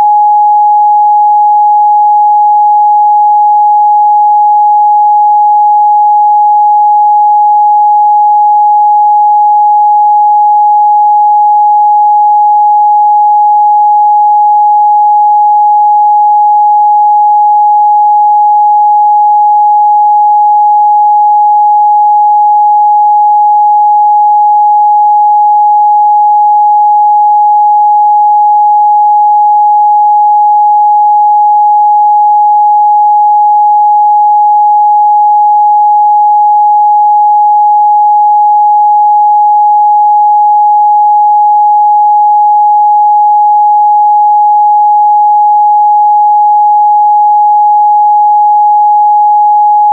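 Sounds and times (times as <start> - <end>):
sine wave test tone: 0.0 - 49.9.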